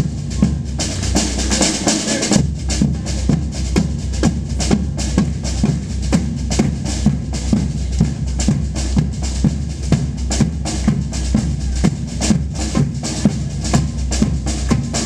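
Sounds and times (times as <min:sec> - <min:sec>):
music with driving beat and bass: 0:00.0 - 0:15.0.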